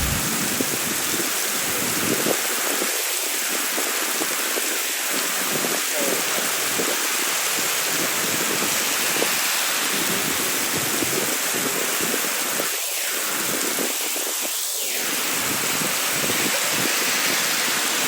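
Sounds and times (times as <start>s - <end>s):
heavy rain on street: 0.0s - 18.0s.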